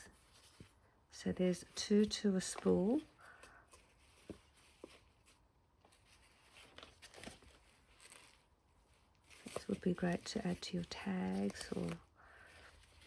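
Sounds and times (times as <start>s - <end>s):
soft clicks and rustles: 1.5s - 13.0s.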